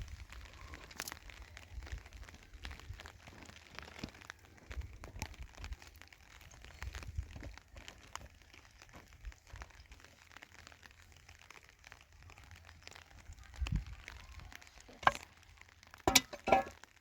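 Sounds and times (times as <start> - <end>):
faint crackles and taps: 0.0 - 17.0
plastic sheeting crinkling: 0.0 - 17.0.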